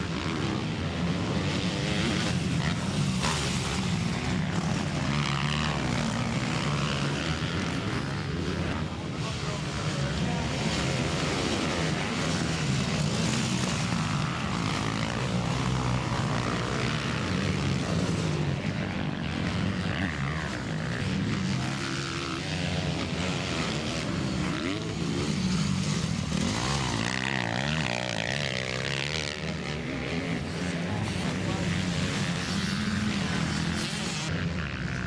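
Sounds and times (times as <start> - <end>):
motocross bikes revving: 0.0 - 35.0.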